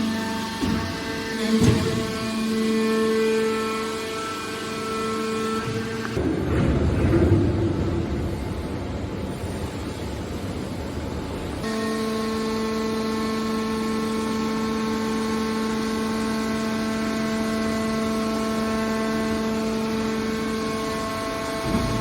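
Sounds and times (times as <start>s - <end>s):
hydraulic pump hum and whine: 0.0s - 22.0s.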